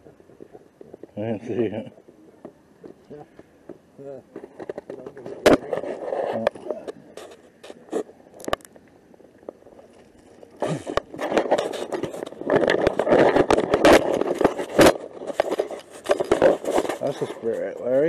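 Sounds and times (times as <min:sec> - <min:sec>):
rubbing scraping and crackling: 0:00.0 - 0:08.7, 0:09.4 - 0:18.0.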